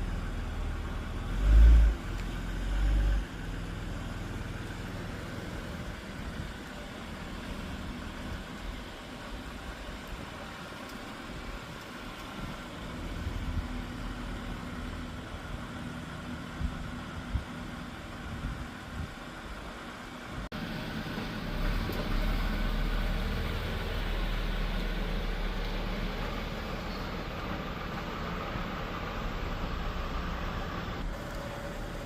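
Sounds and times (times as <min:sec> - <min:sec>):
car engine rumbling: 0:00.0 - 0:32.0.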